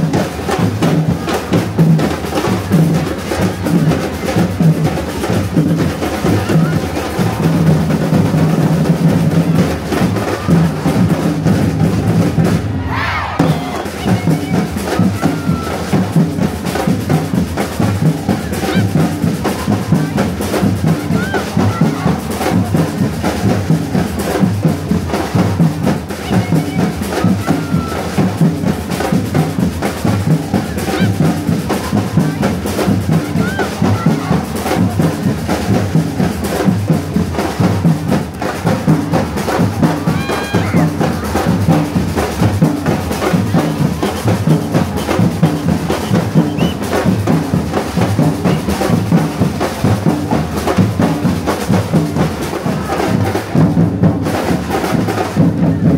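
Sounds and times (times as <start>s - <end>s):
drum line playing: 0.0s - 55.9s
snare drums: 0.0s - 55.9s.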